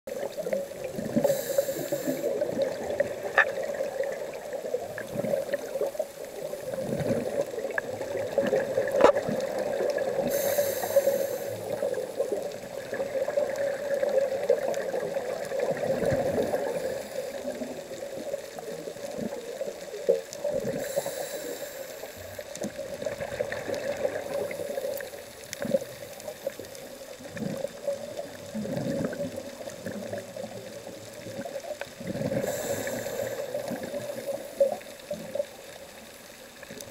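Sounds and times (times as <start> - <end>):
underwater air bubbles: 0.1 - 36.9.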